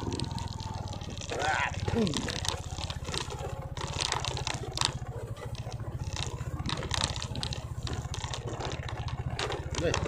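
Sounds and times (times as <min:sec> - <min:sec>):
motorcycle engine running: 0:00.0 - 0:10.0
rattling and scraping: 0:00.0 - 0:10.0.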